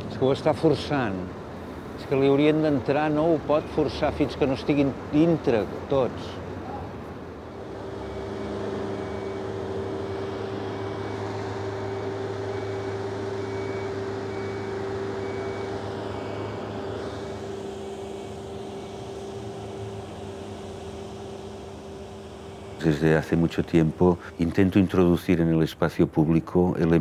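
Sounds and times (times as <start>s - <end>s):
hoisting machinery engine drone: 0.0s - 27.0s.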